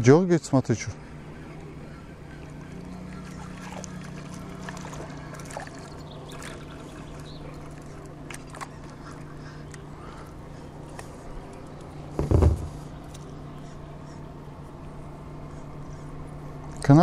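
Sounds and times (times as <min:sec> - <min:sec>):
steady low hum: 0:00.0 - 0:17.0
water lapping and trickling: 0:00.5 - 0:17.0.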